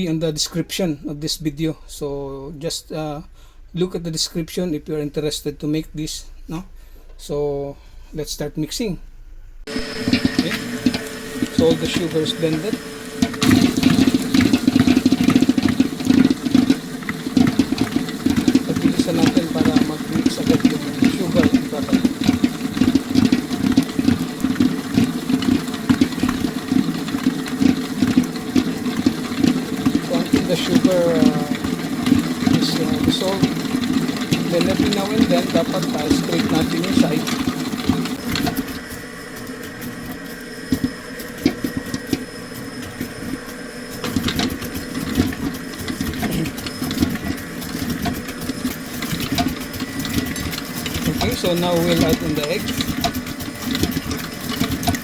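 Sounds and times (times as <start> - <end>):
electric mixer running: 9.7 - 55.0.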